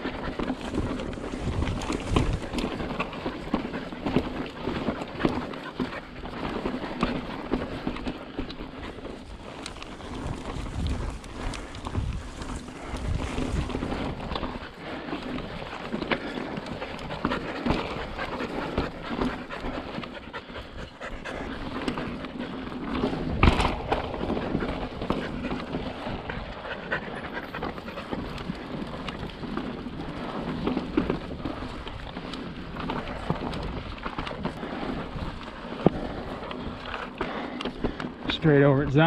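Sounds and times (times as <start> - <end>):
dog panting: 0.0 - 33.8.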